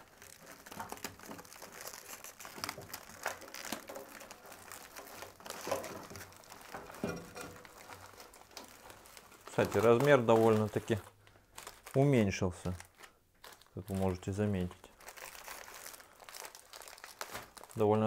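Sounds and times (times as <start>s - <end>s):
foil chip bags crinkling: 0.0s - 18.0s.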